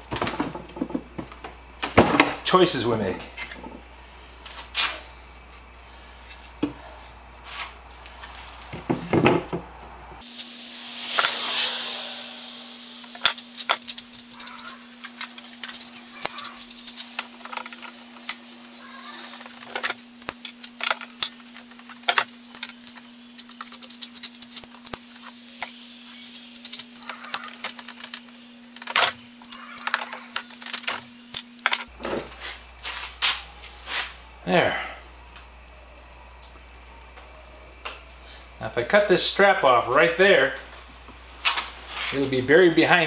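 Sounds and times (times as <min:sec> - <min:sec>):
steady hum: 0:03.0 - 0:38.6.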